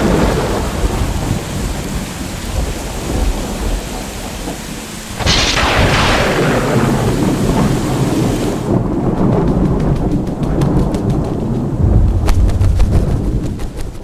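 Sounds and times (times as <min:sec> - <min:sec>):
heavy rain: 0:00.0 - 0:14.0
thunder cracking and rolling: 0:00.0 - 0:14.0.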